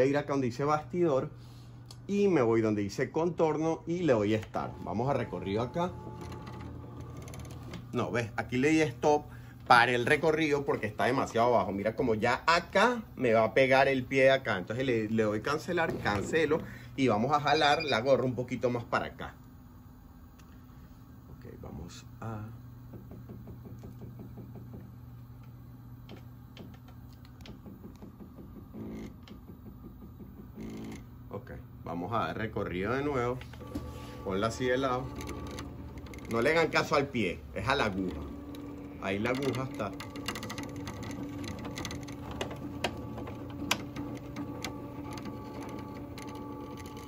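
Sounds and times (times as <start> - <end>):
embroidery machine humming: 3.4 - 47.0.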